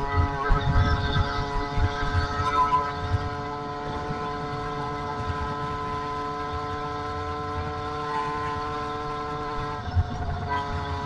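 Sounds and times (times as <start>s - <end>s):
low wind: 0.0s - 11.0s
road rumble: 0.0s - 11.0s
two-stroke engine buzzing: 0.0s - 11.0s.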